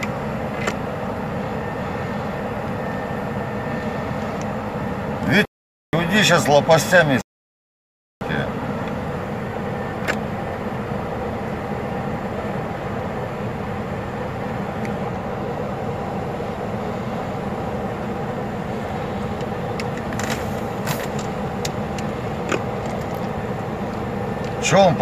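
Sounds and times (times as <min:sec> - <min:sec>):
helicopter engine and rotor drone: 0:00.0 - 0:05.4, 0:06.0 - 0:07.2, 0:08.2 - 0:25.0.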